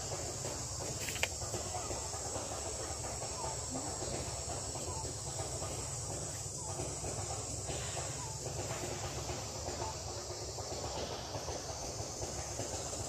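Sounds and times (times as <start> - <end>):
faint murmur: 0.4 - 11.7.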